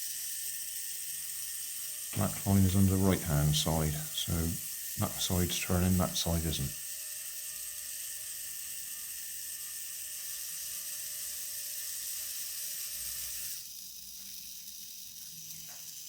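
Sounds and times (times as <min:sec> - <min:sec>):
toy car motor whirring: 0:00.0 - 0:16.0.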